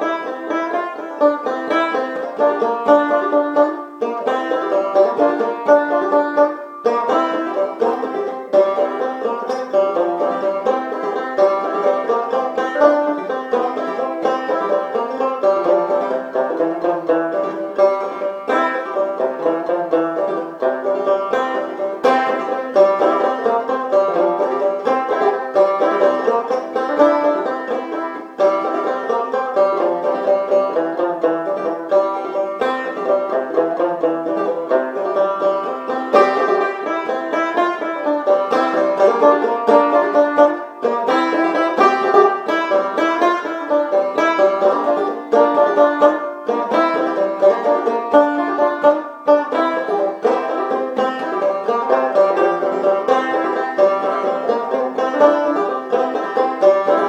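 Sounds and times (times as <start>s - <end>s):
banjo playing a waltz: 0.0s - 57.0s.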